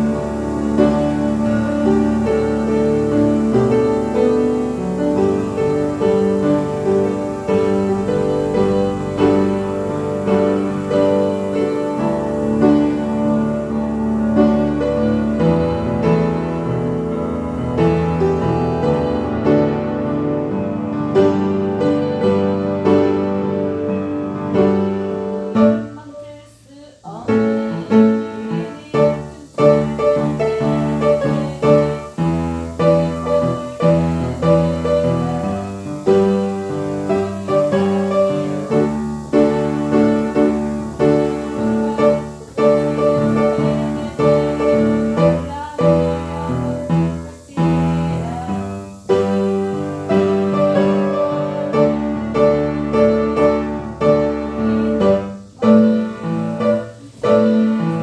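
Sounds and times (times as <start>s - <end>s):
piano chords and melody: 0.0s - 26.0s, 27.3s - 58.0s.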